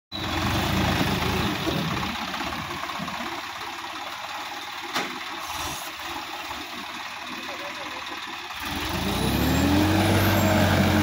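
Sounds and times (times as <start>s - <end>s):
tractor diesel engine running: 0.1s - 11.0s.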